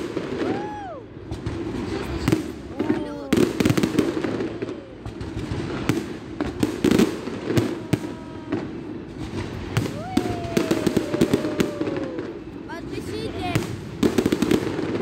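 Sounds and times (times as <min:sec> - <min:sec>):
fireworks bangs and crackles: 0:00.0 - 0:15.0
crowd murmur: 0:00.2 - 0:15.0.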